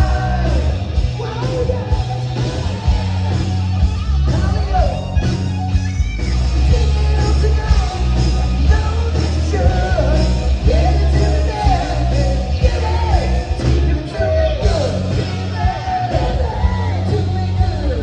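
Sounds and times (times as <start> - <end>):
person singing: 0.0 - 3.4, 6.7 - 18.0
bass guitar: 0.0 - 18.0
drums: 0.0 - 18.0
electric guitars: 0.0 - 18.0.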